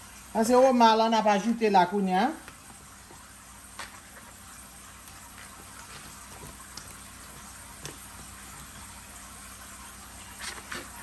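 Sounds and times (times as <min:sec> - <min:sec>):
boiling pot hissing: 0:00.0 - 0:11.0.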